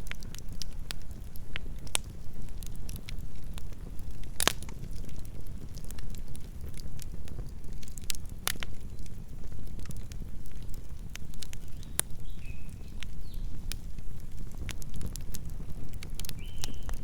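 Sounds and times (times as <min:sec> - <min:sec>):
burning wood crackling and popping: 0:00.0 - 0:17.0
low rumble of flames: 0:00.0 - 0:17.0.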